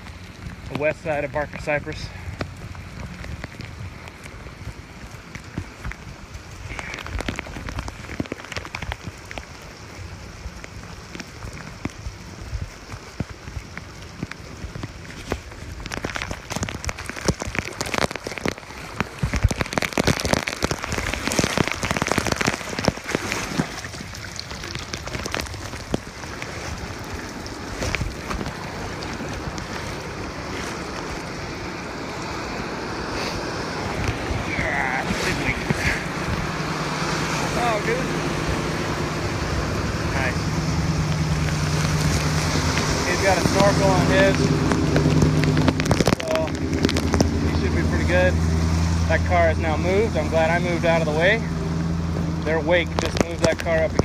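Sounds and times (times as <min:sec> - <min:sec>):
crackles: 0:00.0 - 0:54.0
moving floodwater: 0:00.0 - 0:54.0
rain: 0:00.0 - 0:54.0
wind on microphone: 0:02.3 - 0:49.0.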